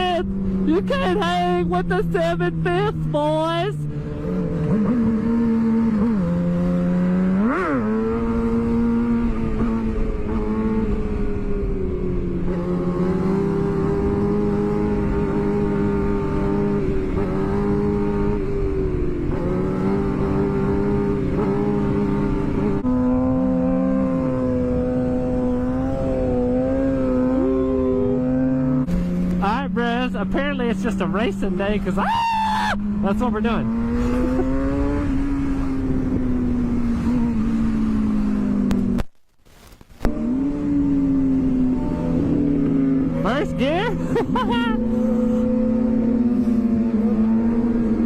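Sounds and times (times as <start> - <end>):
motorcycle engine revving: 0.0 - 39.2, 39.9 - 48.0.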